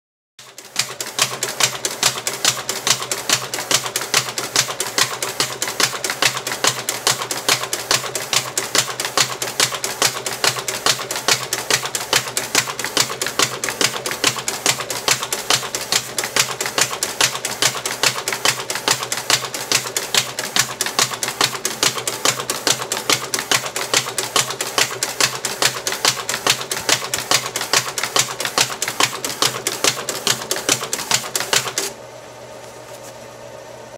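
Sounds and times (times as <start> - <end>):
paper folder clacking: 0.5 - 31.9.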